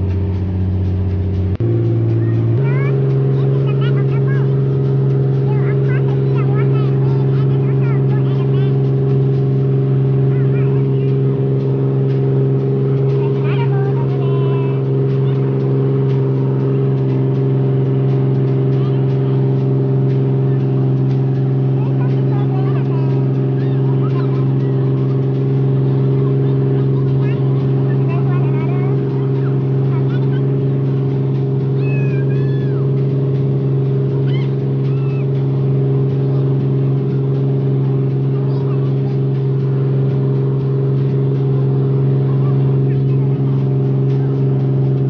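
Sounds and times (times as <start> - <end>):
boat diesel engine drone: 0.0 - 45.0
rush of boat wake: 0.0 - 45.0
water churning: 0.0 - 45.0.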